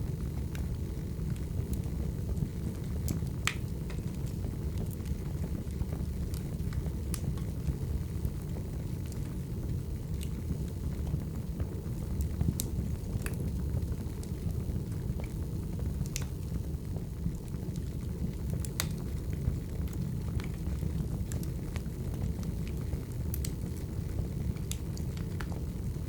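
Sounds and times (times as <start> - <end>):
low rumble of flames: 0.0 - 26.0
logs crackling and popping: 0.1 - 26.0.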